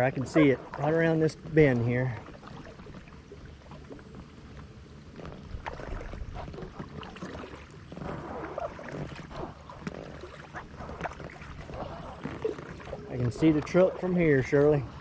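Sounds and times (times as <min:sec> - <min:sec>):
paddles splashing in river water: 0:00.0 - 0:15.0.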